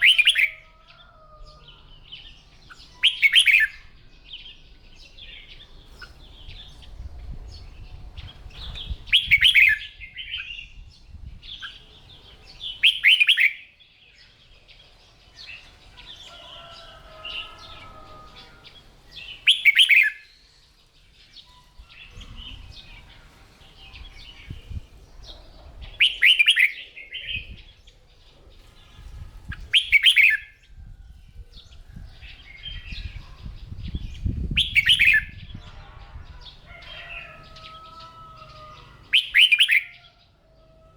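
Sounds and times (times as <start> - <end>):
bird warbling song phrases: 0.0 - 0.7, 1.4 - 4.5, 5.2 - 13.7, 16.0 - 20.4, 22.0 - 40.1.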